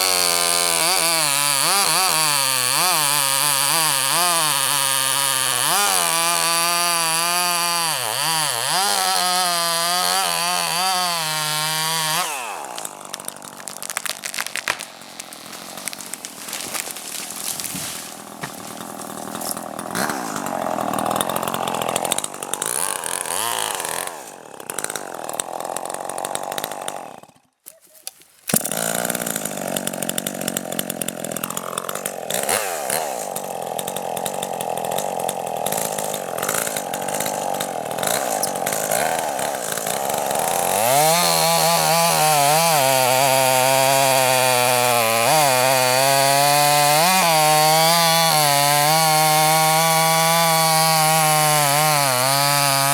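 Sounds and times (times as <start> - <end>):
chainsaw cutting logs: 0.0 - 52.9.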